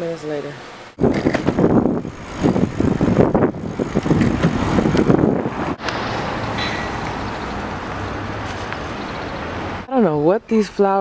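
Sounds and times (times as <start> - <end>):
wind buffeting microphone: 1.0 - 9.8
bicycle road rumble: 1.0 - 9.9.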